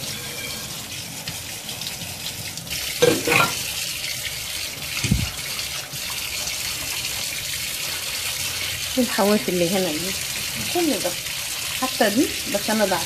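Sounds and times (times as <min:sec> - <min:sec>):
hand working in a sink: 0:00.0 - 0:11.8
tap water running into a sink: 0:00.0 - 0:13.0.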